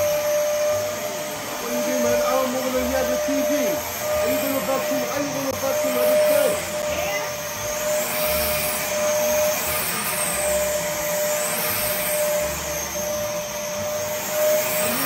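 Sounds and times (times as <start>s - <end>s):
vacuum cleaner motor whine: 0.0s - 15.0s
vacuum hose on upholstery: 0.0s - 15.0s.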